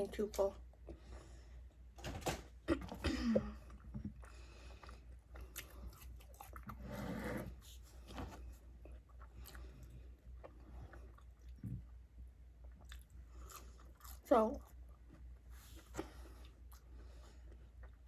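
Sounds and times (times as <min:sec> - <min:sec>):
chewing crunchy fries: 0:02.8 - 0:18.0.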